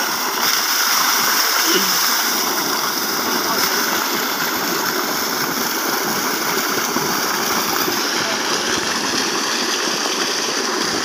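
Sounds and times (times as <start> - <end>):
water gushing from a pipe: 0.0 - 11.0.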